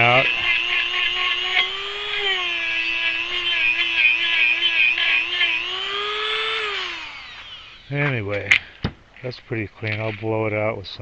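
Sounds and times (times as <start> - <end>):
power tool motor whine: 0.0 - 8.9
wire wheel brushing hiss: 0.0 - 10.5.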